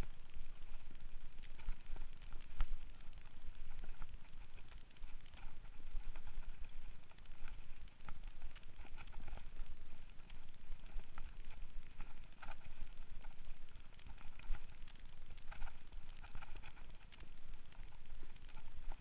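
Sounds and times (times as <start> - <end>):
bike clicks and gravel rattles: 0.0 - 19.0.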